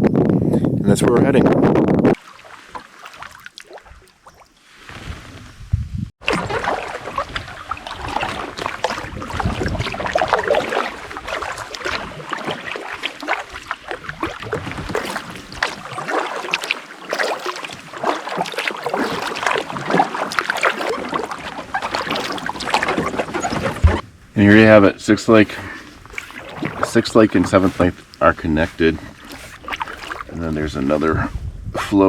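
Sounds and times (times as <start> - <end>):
paddle splashing water: 2.1 - 5.6, 6.2 - 31.5.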